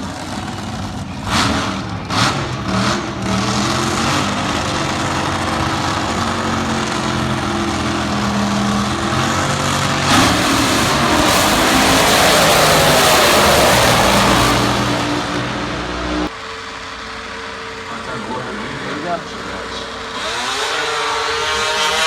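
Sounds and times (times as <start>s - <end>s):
race car engine running: 0.0s - 22.0s.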